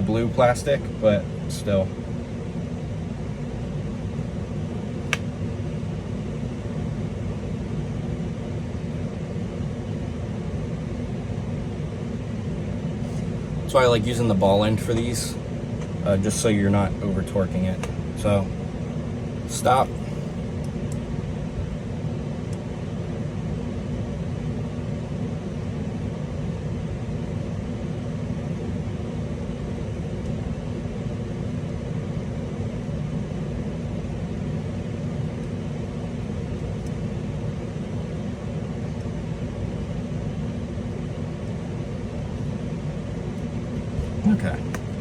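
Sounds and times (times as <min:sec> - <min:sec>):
low rumbling background noise: 0:00.0 - 0:45.0.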